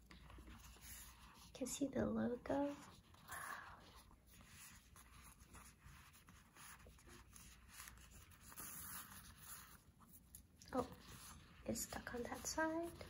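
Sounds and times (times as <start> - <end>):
ribbon rustling and scraping: 0.0 - 13.0.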